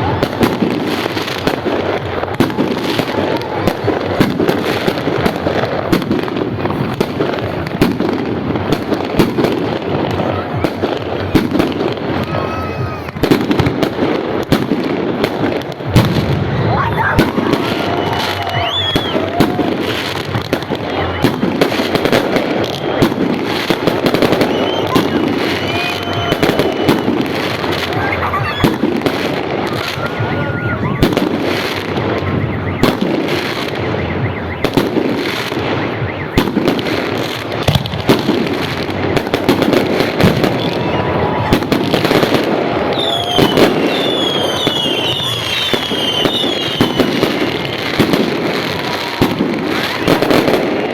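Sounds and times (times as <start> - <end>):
fireworks bangs and crackling: 0.0 - 50.9
whistling fireworks: 0.0 - 50.9.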